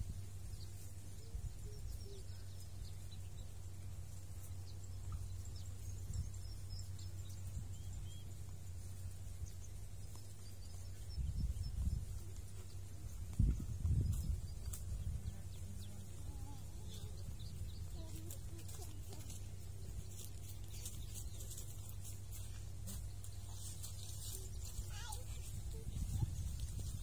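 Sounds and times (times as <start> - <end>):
low rumble: 0.0 - 27.0
bird chirps: 0.5 - 27.0.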